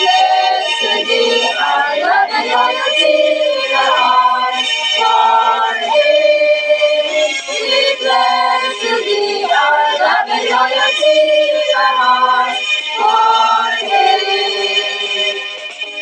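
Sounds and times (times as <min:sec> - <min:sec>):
women singing a hymn: 0:00.0 - 0:15.5.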